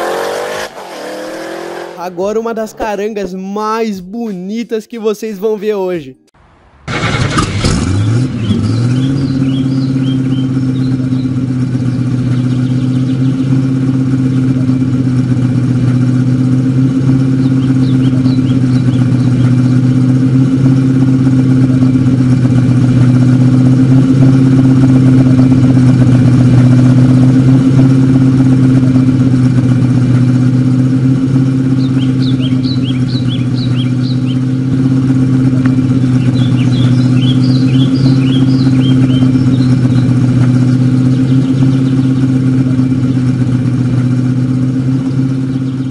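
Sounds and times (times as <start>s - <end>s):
car engine fast idle: 6.9s - 45.9s.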